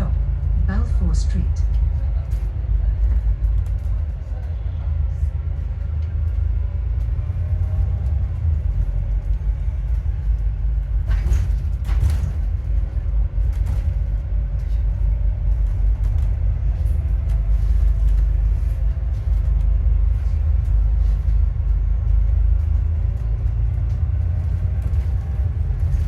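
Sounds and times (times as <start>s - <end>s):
bus engine and road rumble: 0.0s - 26.0s
faint alternator whine: 0.0s - 26.0s.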